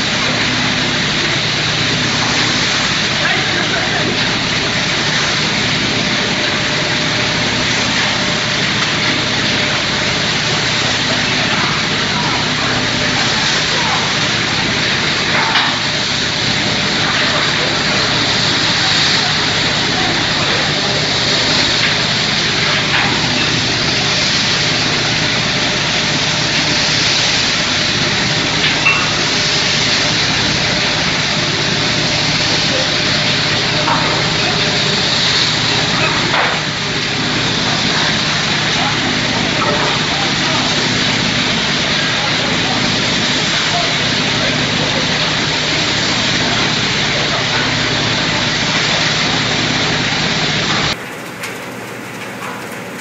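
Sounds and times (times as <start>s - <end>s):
blower fan rushing air: 0.0s - 53.0s
rotary drum dryer running: 0.0s - 53.0s.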